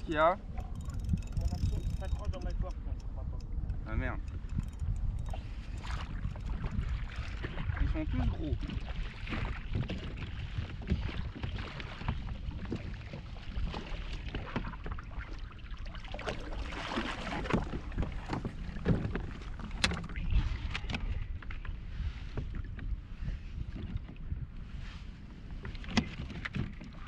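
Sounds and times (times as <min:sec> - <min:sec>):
wind buffeting microphone: 0:00.0 - 0:15.3, 0:16.1 - 0:27.0
water sloshing around kayak: 0:00.1 - 0:27.0.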